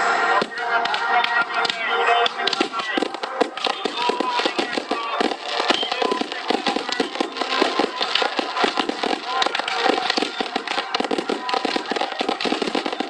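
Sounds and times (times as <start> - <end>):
fireworks crackling and popping: 0.4 - 13.0.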